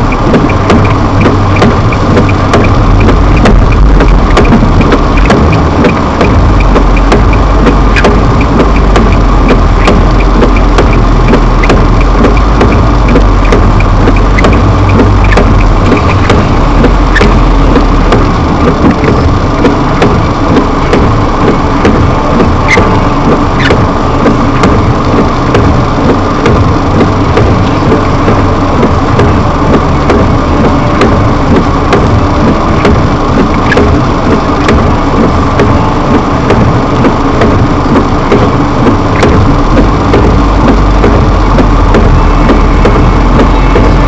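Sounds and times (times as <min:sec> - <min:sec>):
car engine humming: 0:00.0 - 0:44.0
sharp clicks and crackles: 0:00.0 - 0:44.0.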